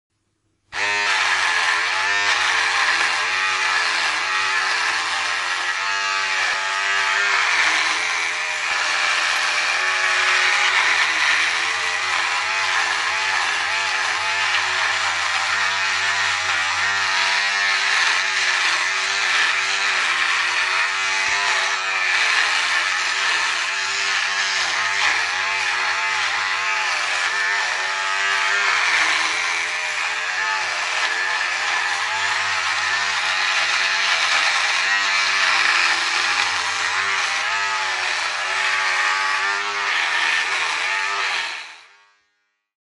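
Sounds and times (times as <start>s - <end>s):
electric razor buzzing: 0.7s - 42.0s.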